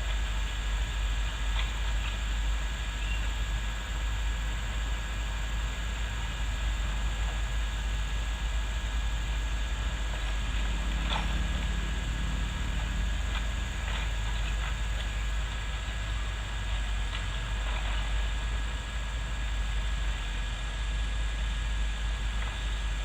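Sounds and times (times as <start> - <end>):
diesel engine running: 0.0 - 20.5
thin steady whine: 0.0 - 23.0.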